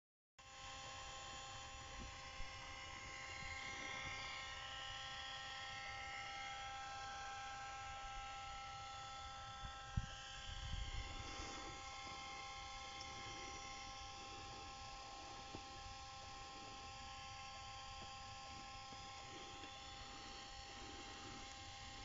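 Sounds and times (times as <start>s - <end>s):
car electrical buzz and whine: 0.4s - 22.0s.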